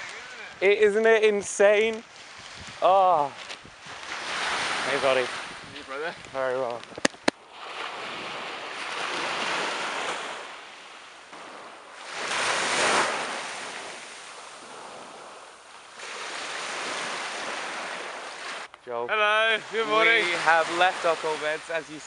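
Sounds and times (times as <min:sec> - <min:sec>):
small waves breaking on beach: 0:00.0 - 0:06.6, 0:07.2 - 0:22.0.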